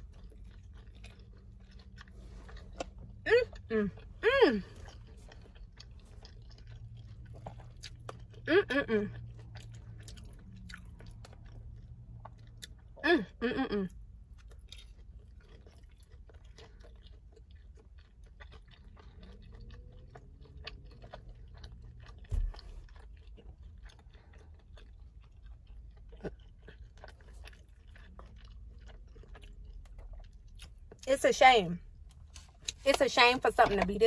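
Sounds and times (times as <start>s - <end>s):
person chewing: 0.0s - 31.0s, 31.9s - 32.9s.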